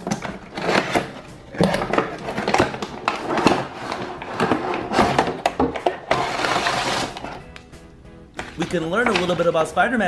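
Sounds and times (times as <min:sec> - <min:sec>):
cardboard and plastic rustling: 0:00.0 - 0:07.5, 0:08.4 - 0:09.7.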